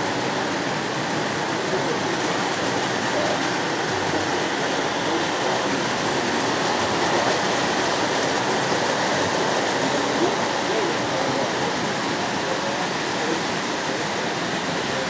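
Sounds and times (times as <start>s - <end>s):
hum of busy hall: 0.0s - 15.0s
model trains running on track: 0.0s - 15.0s.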